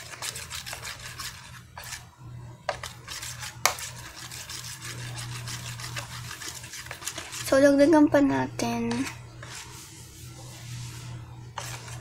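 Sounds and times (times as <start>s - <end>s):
spoon stirring slime in plastic tub: 0.0s - 12.0s.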